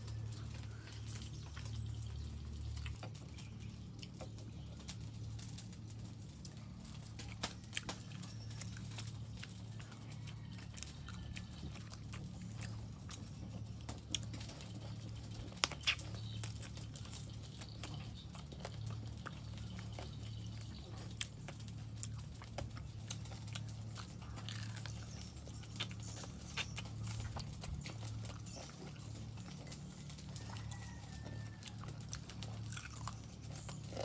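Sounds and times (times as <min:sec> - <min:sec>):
chewing and crunching: 0:00.0 - 0:34.0
steady low hum: 0:00.0 - 0:34.0.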